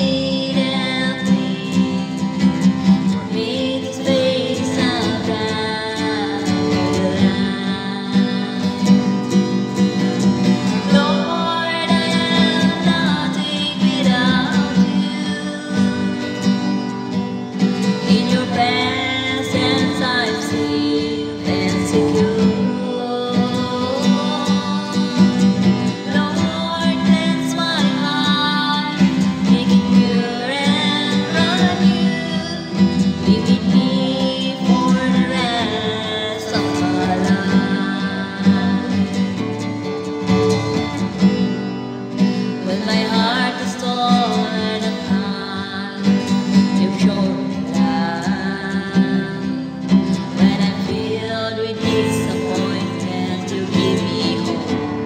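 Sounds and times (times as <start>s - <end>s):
woman singing a worship song: 0.0s - 9.4s, 10.0s - 17.1s, 17.9s - 39.7s, 42.4s - 55.0s
acoustic guitar chords: 0.0s - 55.0s.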